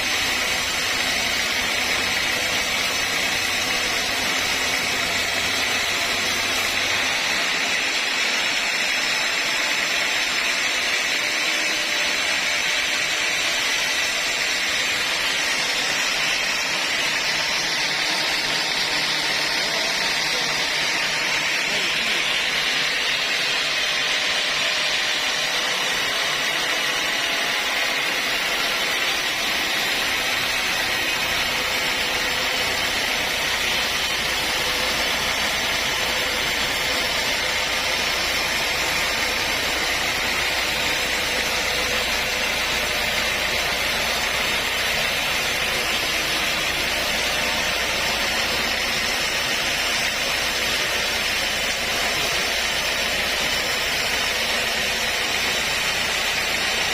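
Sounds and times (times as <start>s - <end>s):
saw cutting through log: 0.0s - 56.9s.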